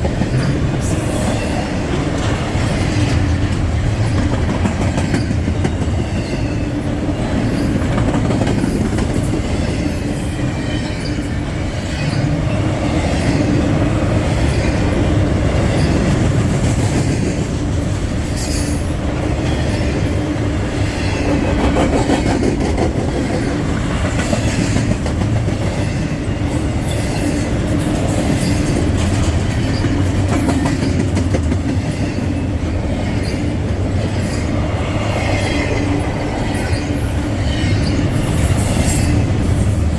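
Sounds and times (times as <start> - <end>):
train wheels rumbling on rail: 0.0 - 39.9
wheels clicking over rail joints: 0.0 - 39.9.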